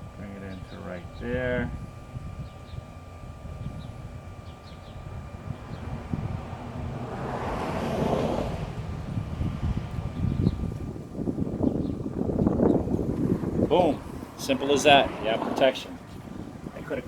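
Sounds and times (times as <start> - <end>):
low handling rumble: 0.0 - 17.0.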